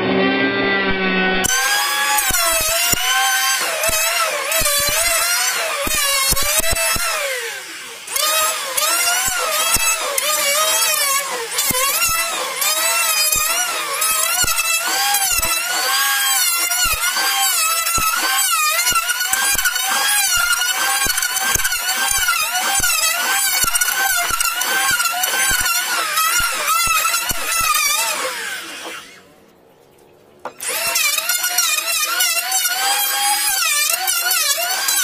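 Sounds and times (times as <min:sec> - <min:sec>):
electric hand planer cutting wood: 0:00.0 - 0:29.2, 0:30.5 - 0:35.0.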